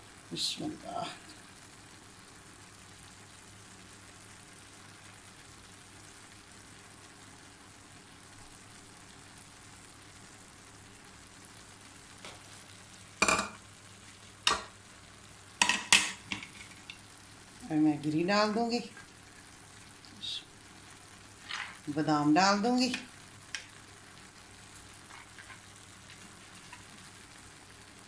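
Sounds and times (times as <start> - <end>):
rice sizzling in oil: 0.0 - 28.0.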